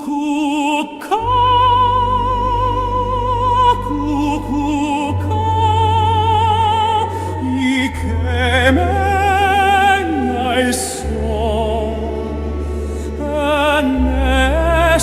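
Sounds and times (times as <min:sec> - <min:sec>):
operatic singing: 0:00.0 - 0:15.0
low musical accompaniment: 0:01.2 - 0:15.0.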